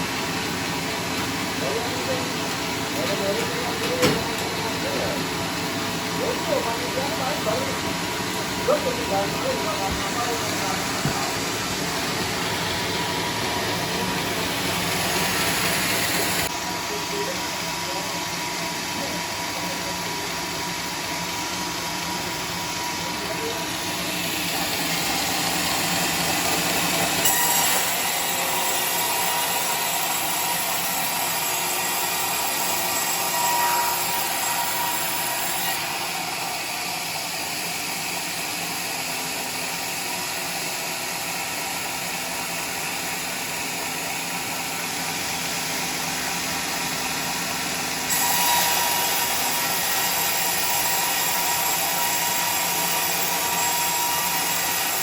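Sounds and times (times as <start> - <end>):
saw cutting timber: 0.0 - 55.0.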